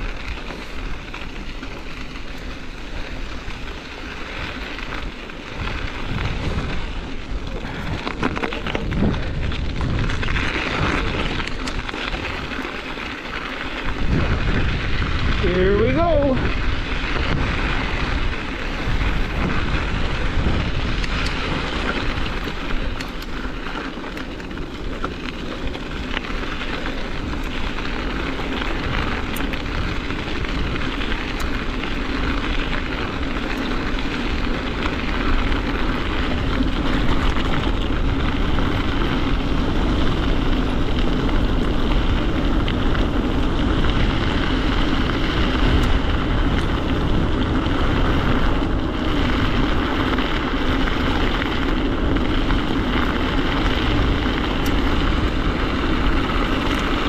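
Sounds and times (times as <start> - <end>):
bike tyre noise: 0.0 - 57.0
wind buffeting microphone: 0.0 - 57.0.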